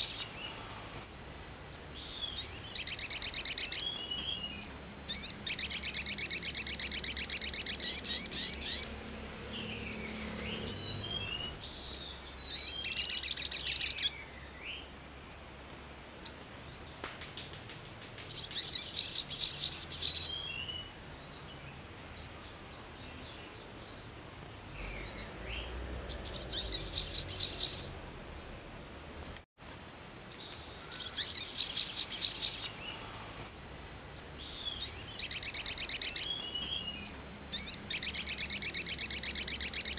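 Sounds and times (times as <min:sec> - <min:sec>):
bird trilling song: 0:00.0 - 0:29.4, 0:30.3 - 0:39.9.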